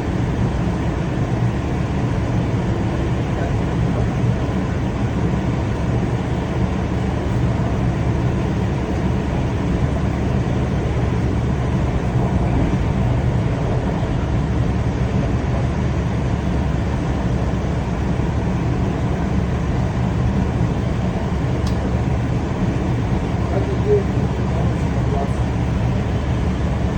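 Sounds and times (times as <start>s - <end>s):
train rumbling along track: 0.0s - 26.9s.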